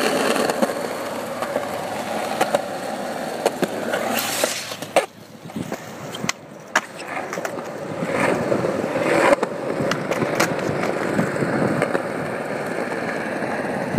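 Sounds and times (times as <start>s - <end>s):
skateboard clacks: 0.0s - 13.9s
skateboard wheels rolling on concrete: 0.0s - 13.9s.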